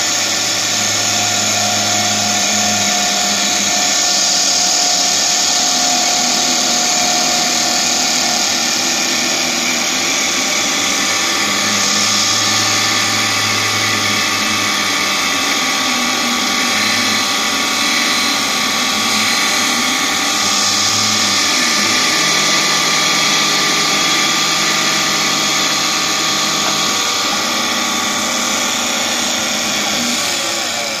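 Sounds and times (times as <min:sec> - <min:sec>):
low machine hum: 0:00.0 - 0:30.3
wood lathe whining: 0:00.0 - 0:31.0.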